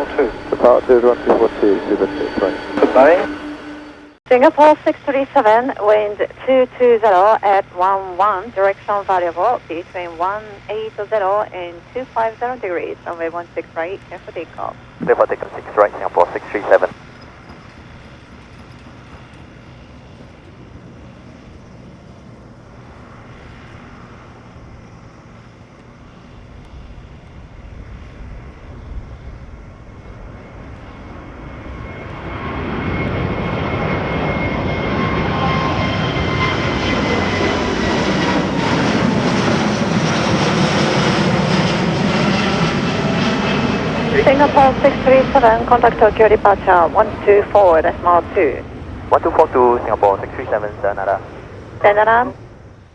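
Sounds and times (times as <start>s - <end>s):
jet airliner taking off: 0.0s - 52.9s.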